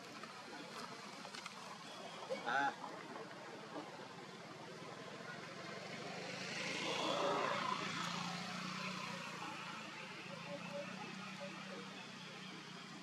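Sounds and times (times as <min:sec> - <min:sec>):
motor vehicle passing by: 0:00.8 - 0:13.0.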